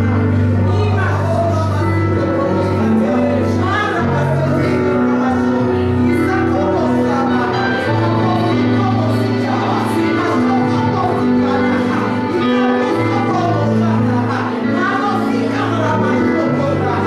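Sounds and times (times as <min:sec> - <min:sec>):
held instrument chords: 0:00.0 - 0:17.0
voices singing: 0:00.9 - 0:17.0.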